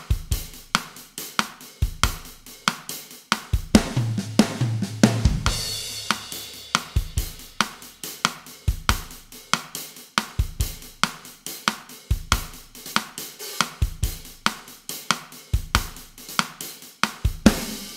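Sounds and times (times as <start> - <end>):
drum kit playing a groove: 0.0 - 17.9.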